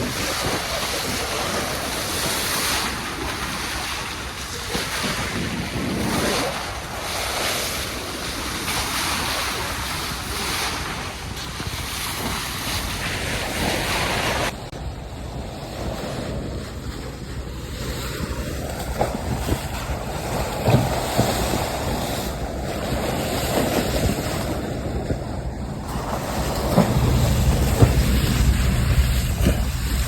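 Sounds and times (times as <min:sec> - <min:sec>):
water rushing from bow wave: 0:00.0 - 0:30.0
wind buffeting microphone: 0:00.0 - 0:30.0.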